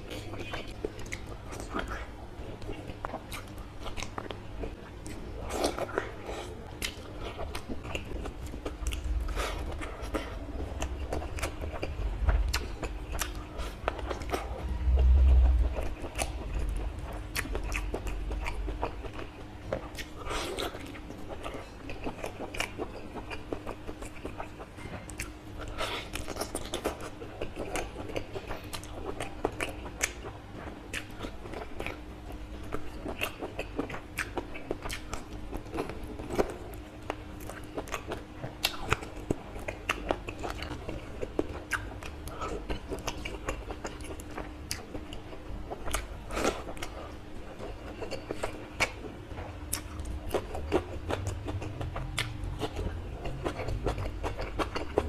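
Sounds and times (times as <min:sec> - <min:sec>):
faint steady hum: 0:00.0 - 0:55.0
wet chewing: 0:00.0 - 0:55.0.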